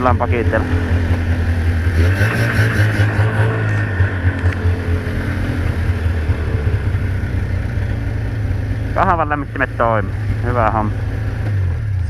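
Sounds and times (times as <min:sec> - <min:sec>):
snowmobile engine at low revs: 0:00.0 - 0:12.0.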